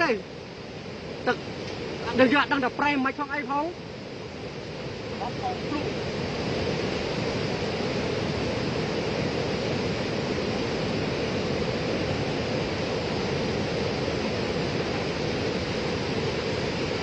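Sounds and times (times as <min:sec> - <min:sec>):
rushing floodwater: 0:00.8 - 0:17.0.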